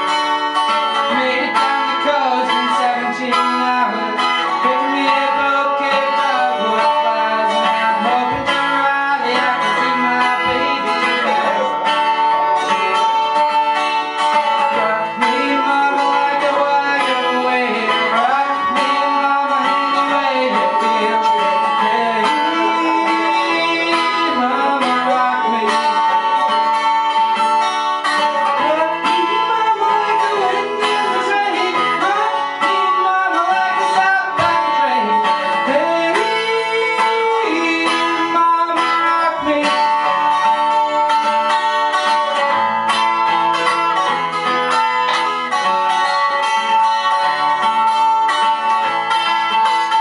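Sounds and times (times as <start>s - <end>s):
acoustic guitar playing: 0.0s - 50.0s.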